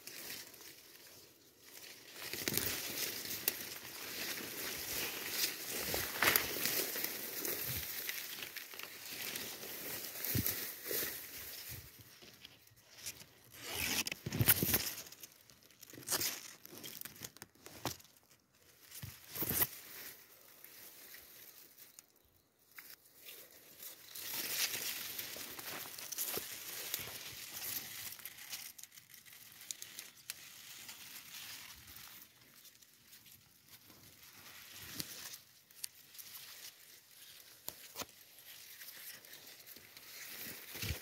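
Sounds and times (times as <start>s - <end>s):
grass rustling underfoot: 0.0s - 41.0s.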